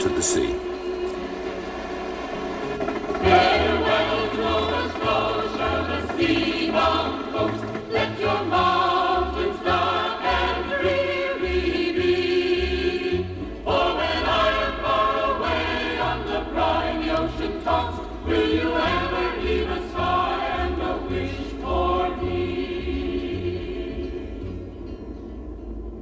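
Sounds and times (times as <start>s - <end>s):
choir singing: 0.0s - 24.9s.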